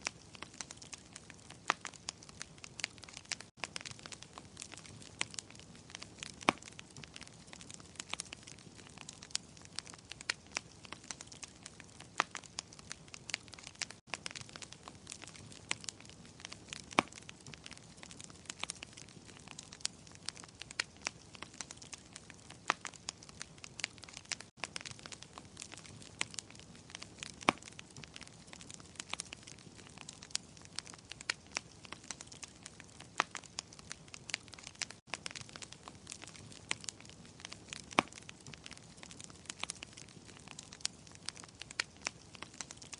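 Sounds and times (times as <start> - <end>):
soft steady hiss: 0.0 - 42.9
wood fire crackling: 0.0 - 42.9.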